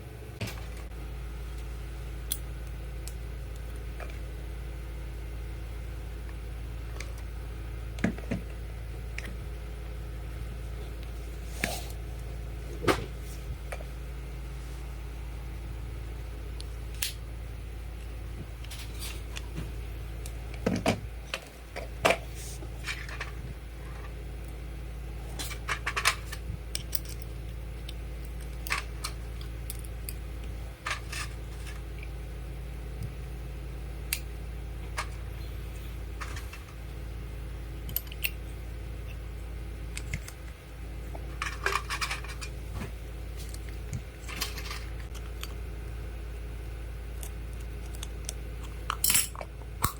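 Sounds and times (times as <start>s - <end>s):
low hum: 0.0s - 49.9s.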